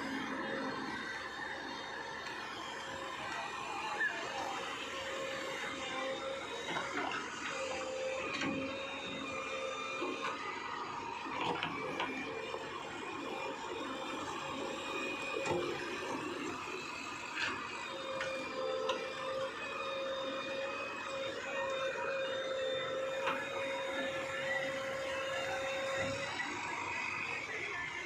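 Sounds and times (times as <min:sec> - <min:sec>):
backhoe loader engine running: 0:00.0 - 0:28.0
hydraulic whine: 0:00.0 - 0:28.0.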